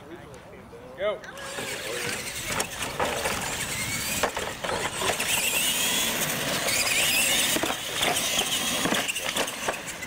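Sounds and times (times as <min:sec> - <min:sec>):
toy truck motors whining: 0:01.3 - 0:10.0.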